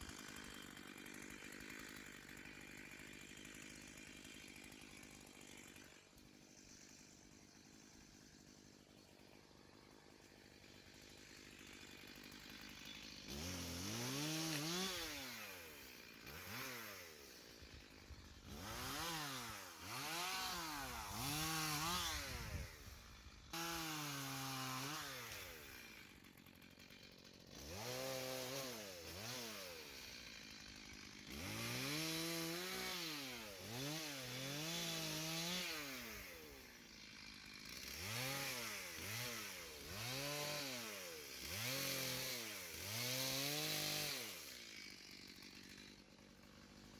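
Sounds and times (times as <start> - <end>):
chainsaw revving cutting wood: 0.0 - 46.9.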